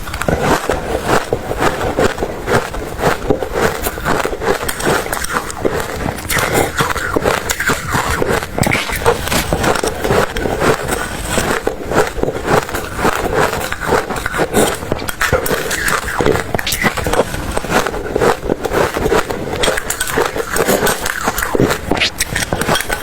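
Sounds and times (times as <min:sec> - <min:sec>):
ice chewing crunches: 0:00.0 - 0:23.0.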